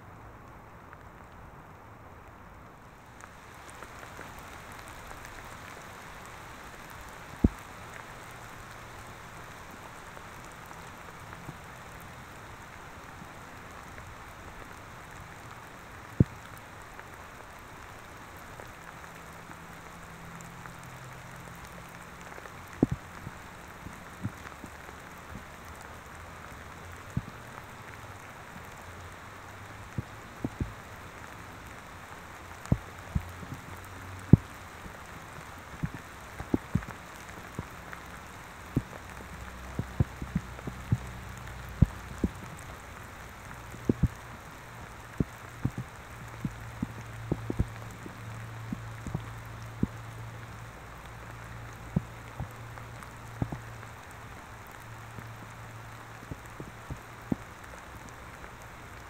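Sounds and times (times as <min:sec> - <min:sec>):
raindrops clicking on microphone: 0:00.0 - 0:59.0
steady rain hiss: 0:00.0 - 0:59.0.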